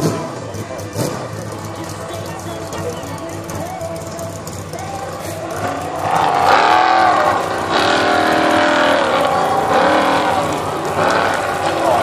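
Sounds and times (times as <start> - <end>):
buggy engine revving hard: 0.0 - 3.6, 4.3 - 12.0.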